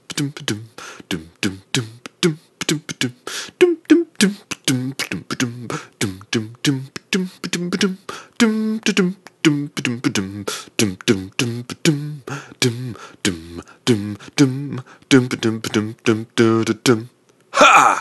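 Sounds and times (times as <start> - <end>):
man singing wordless syllables: 0.0 - 18.0.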